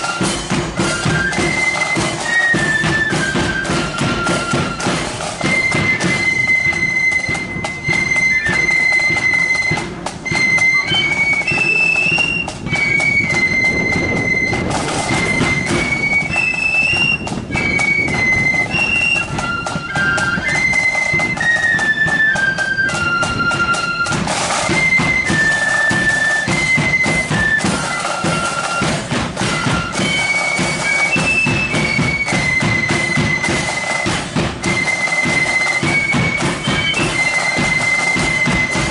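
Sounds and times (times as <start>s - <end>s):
flutes playing in unison: 0.0s - 38.9s
steady drumbeats: 0.0s - 38.9s.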